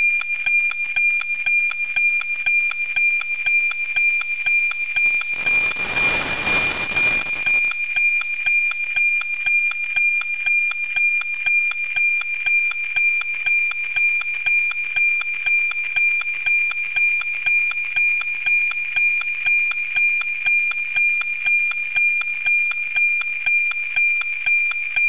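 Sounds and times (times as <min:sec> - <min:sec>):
steady high tone with ticking: 0:00.0 - 0:25.0.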